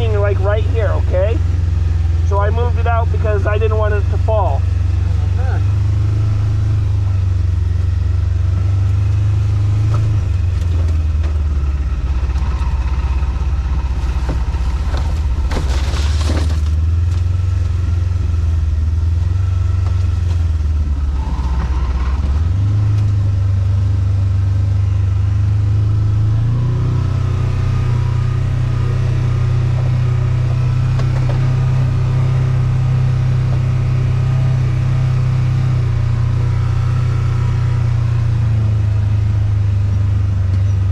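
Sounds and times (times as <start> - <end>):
off-road vehicle engine humming: 0.0 - 40.9.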